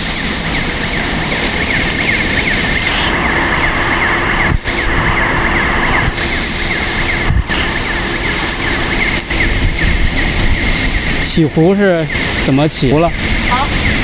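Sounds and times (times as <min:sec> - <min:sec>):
high whine: 0:00.0 - 0:14.0
industrial machinery drone: 0:00.0 - 0:14.0.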